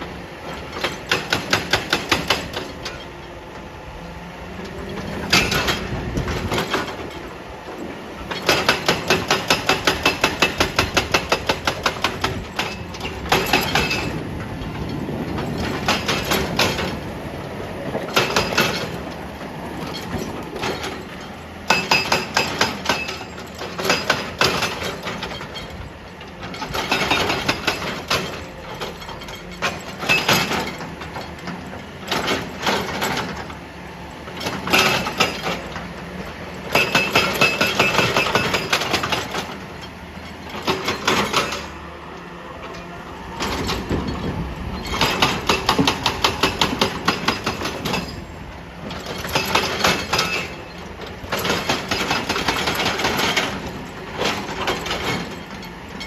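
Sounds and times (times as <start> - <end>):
hydraulic rock breaker hammering: 0.0 - 3.8, 4.5 - 56.0.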